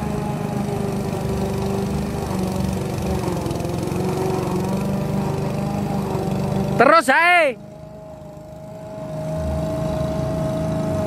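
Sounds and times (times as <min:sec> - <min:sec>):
lawn mower engine cutting grass: 0:00.0 - 0:11.0.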